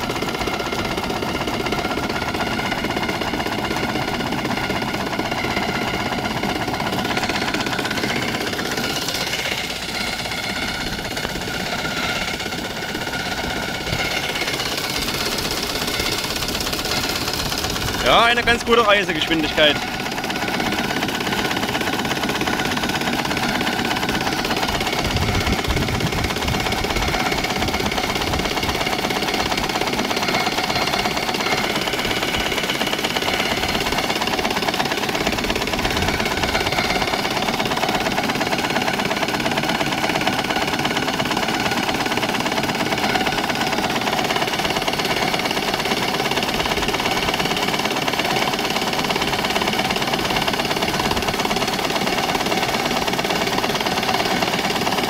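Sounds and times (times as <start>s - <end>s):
small steam engine running: 0.0s - 55.0s.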